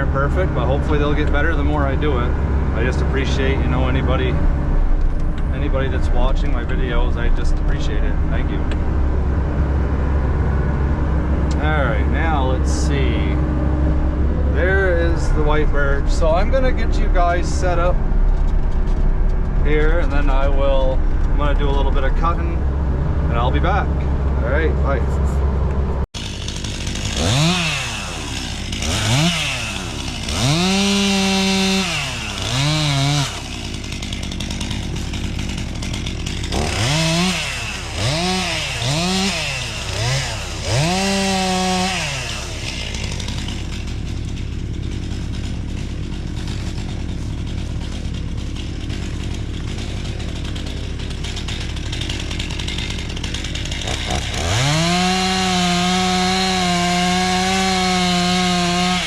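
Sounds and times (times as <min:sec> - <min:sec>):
chainsaw revving and idling: 0:00.0 - 0:25.0, 0:26.2 - 0:59.0.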